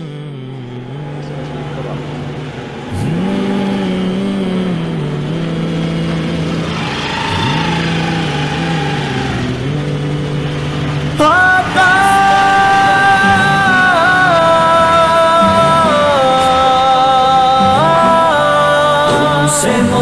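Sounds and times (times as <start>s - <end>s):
music: 0.0s - 20.0s
scooter engine revving: 0.0s - 20.0s.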